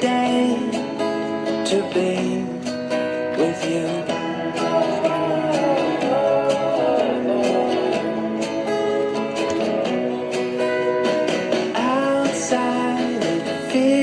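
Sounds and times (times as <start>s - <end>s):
person singing: 0.0s - 14.0s
pop song with guitar: 0.0s - 14.0s.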